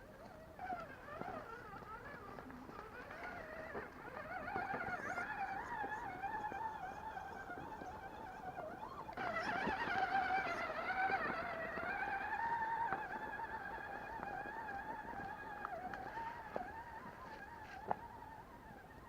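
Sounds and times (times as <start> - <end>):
electric motor and gears whining: 0.0 - 19.0
faint clicks: 0.0 - 19.0.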